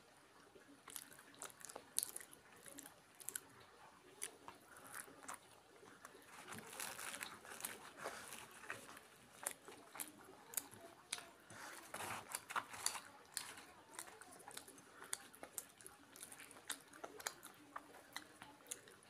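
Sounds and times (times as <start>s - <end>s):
chewing fried food: 0.0s - 19.0s
fingers tearing fried bread: 0.9s - 3.5s, 4.1s - 19.0s.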